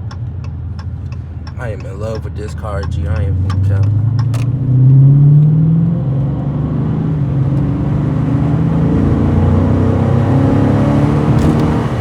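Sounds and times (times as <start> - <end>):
car engine at low revs: 0.0 - 12.0
road noise: 0.0 - 12.0.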